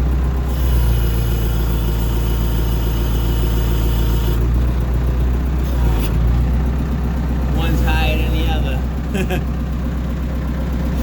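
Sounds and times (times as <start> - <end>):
backhoe engine humming: 0.0 - 11.0.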